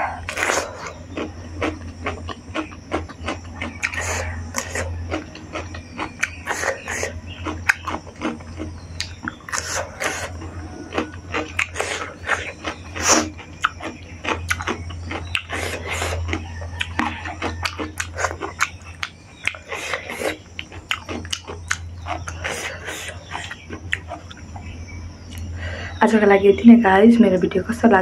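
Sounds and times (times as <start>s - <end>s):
steady low hum: 0.0s - 28.0s
chewing and lip smacks: 0.2s - 24.7s, 25.3s - 25.6s.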